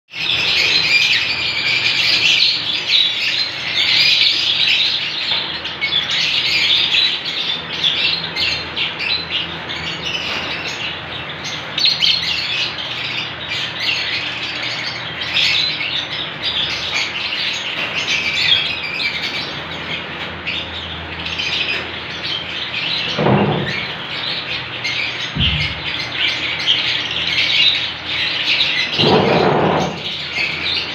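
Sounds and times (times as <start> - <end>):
lovebirds chattering: 0.1 - 30.9.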